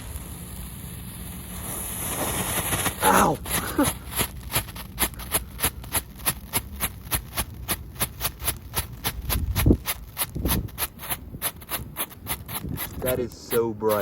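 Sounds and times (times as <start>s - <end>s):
rapid firework pops: 0.0s - 14.0s.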